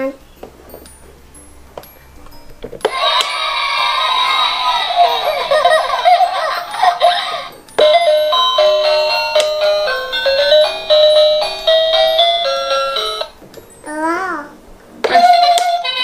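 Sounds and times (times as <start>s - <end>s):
chiming ice cream van jingle: 0.0s - 14.4s, 15.1s - 16.0s.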